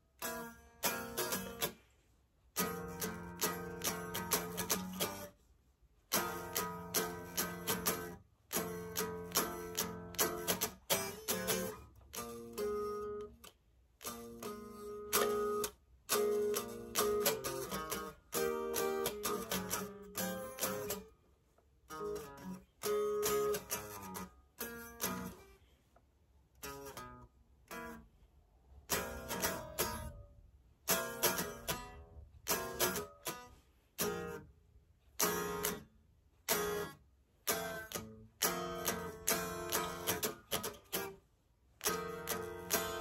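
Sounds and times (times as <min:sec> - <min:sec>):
electric guitar choppy strumming: 0:00.2 - 0:01.8, 0:02.6 - 0:05.3, 0:06.1 - 0:21.1, 0:21.9 - 0:25.4, 0:28.9 - 0:34.4, 0:35.2 - 0:35.9, 0:36.5 - 0:41.2, 0:41.8 - 0:43.0.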